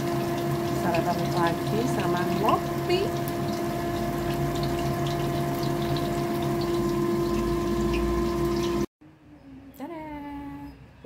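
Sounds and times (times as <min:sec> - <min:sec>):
fritters sizzling in hot oil: 0:00.0 - 0:08.9.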